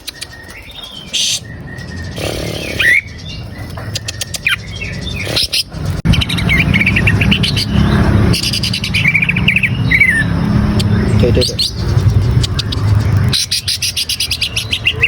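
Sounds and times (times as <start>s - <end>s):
bird chirping and chattering: 0.0s - 15.0s.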